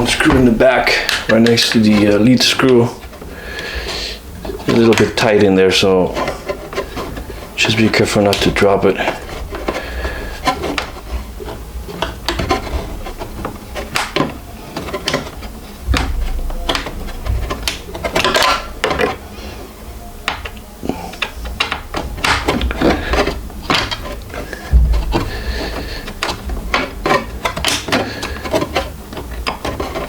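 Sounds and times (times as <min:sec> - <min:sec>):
dull thumps: 0:00.0 - 0:19.3, 0:20.1 - 0:30.0
tool clicking and scraping: 0:00.0 - 0:19.6, 0:20.2 - 0:30.0.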